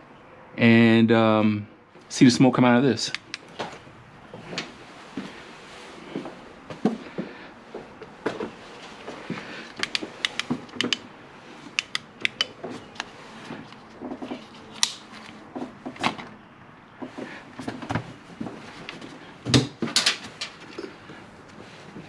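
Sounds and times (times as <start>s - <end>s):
hands handling engine parts: 3.1s - 22.0s.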